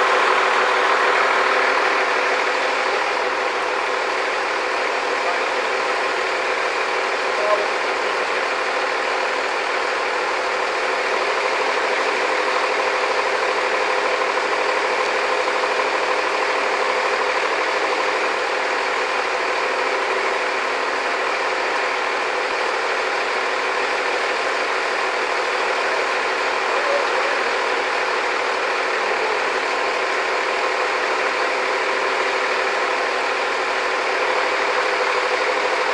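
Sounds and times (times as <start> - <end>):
engine running steadily: 0.0 - 35.9.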